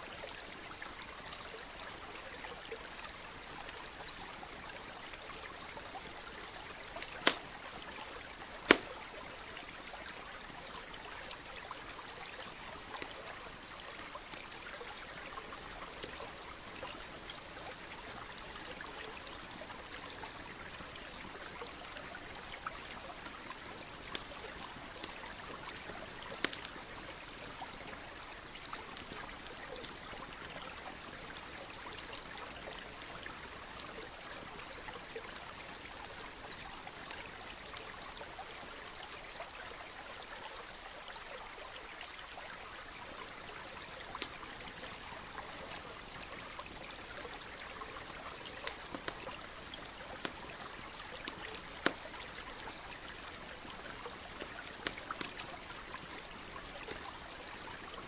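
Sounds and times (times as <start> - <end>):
campfire crackling and popping: 0.0 - 40.1, 42.3 - 58.0.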